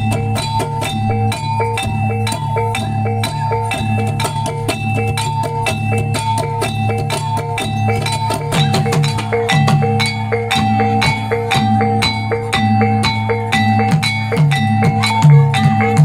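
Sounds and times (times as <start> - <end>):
drums: 0.0 - 16.0
gong-chimes playing fast pattern: 0.0 - 16.0.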